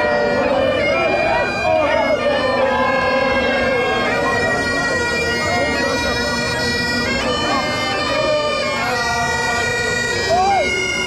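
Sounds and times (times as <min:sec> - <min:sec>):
bagpipes playing a tune: 0:00.0 - 0:11.0
crowd chatter: 0:00.0 - 0:11.0.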